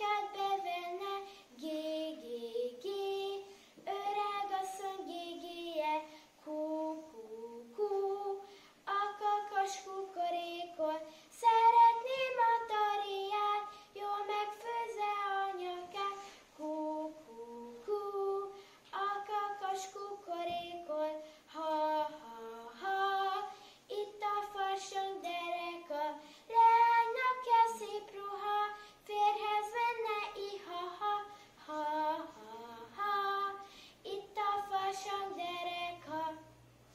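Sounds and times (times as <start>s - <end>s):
boy singing unaccompanied: 0.0s - 36.6s.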